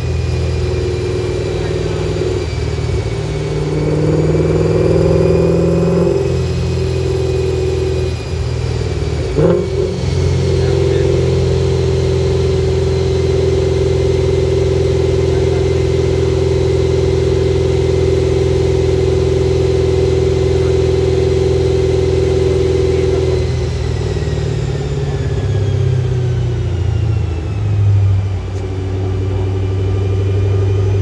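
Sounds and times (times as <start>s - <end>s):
car engine at high rpm: 0.0s - 31.0s
steady whine: 0.0s - 31.0s.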